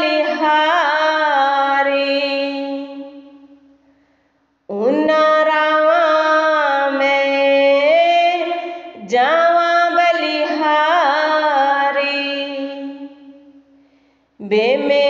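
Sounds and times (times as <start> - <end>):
woman singing devotional song: 0.0 - 3.8, 4.7 - 13.8, 14.4 - 15.0.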